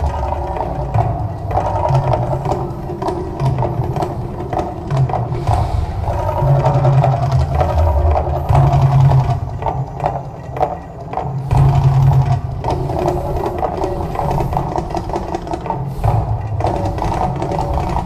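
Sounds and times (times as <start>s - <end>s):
percussion music: 0.0s - 18.0s.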